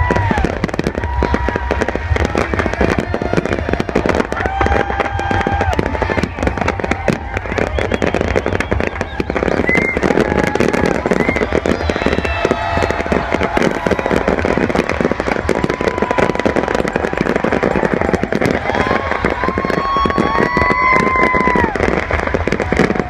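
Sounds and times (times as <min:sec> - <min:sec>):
fireworks crackling and popping: 0:00.0 - 0:23.0
rumbling roar of fireworks: 0:00.0 - 0:23.0
whistling fireworks: 0:00.0 - 0:23.0.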